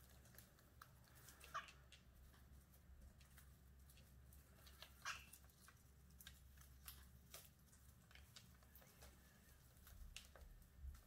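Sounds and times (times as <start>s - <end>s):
birds pecking at stalks: 0.0s - 11.0s
low steady hum: 0.0s - 11.0s.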